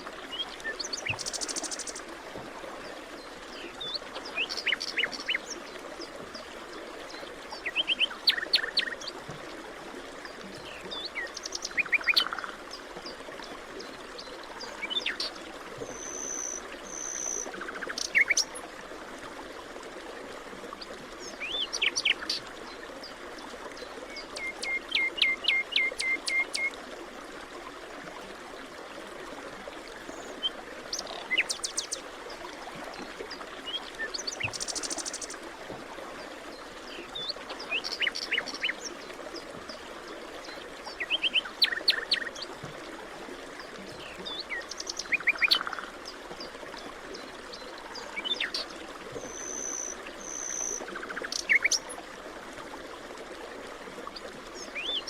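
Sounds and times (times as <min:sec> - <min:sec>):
background rush of water: 0:00.0 - 0:55.0.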